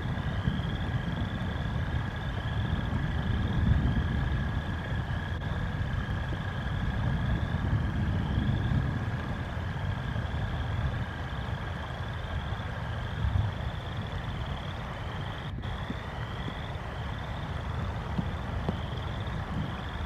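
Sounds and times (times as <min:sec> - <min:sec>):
steady high whine: 0:00.0 - 0:20.0
thunderstorm rumble: 0:00.0 - 0:20.0.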